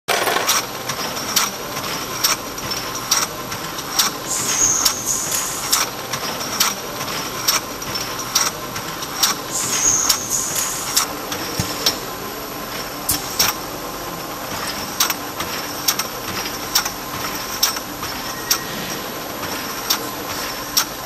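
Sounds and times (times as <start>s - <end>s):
machine mechanical hum: 0.1s - 21.0s.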